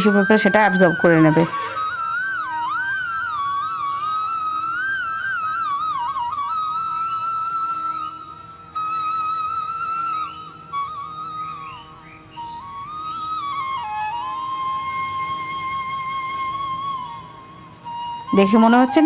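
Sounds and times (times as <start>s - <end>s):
flute-like melody: 0.0s - 19.0s.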